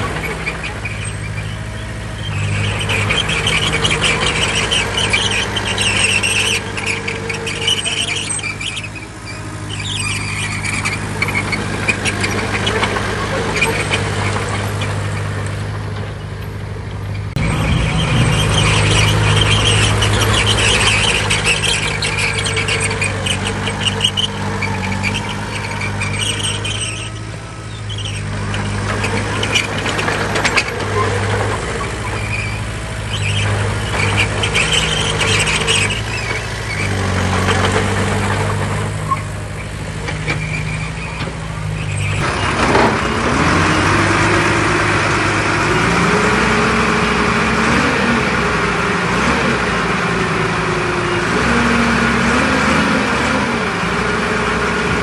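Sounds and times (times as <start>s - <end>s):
high metallic track squeal: 0.0s - 15.4s, 17.1s - 48.0s
bulldozer diesel engine running: 0.0s - 55.0s.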